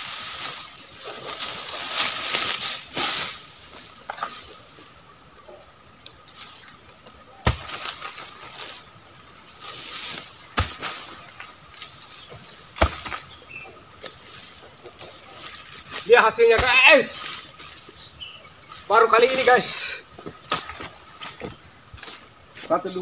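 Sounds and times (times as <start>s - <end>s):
palm frond rustling: 0.0s - 5.1s, 6.1s - 23.0s
high-pitched insect drone: 0.0s - 23.0s.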